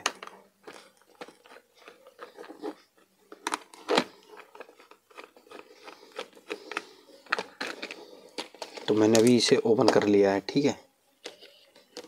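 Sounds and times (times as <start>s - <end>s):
plastic case clicks and creaks: 0.0s - 5.0s, 6.2s - 10.2s, 11.2s - 12.0s.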